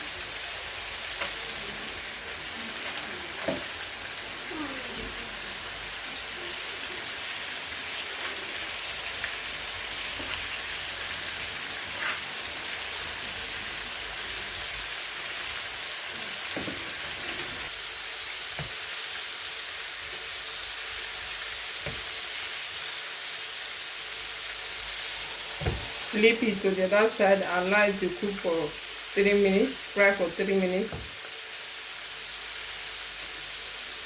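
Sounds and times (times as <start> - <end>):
chicken frying in oil: 0.0 - 34.0.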